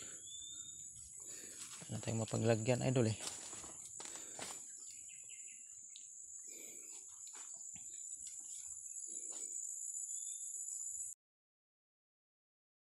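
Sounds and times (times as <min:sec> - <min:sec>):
high-pitched insect chorus: 0:00.0 - 0:11.2.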